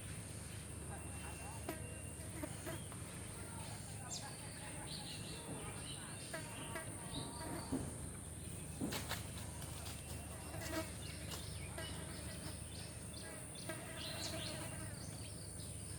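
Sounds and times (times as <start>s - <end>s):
insects droning: 0.0s - 15.9s.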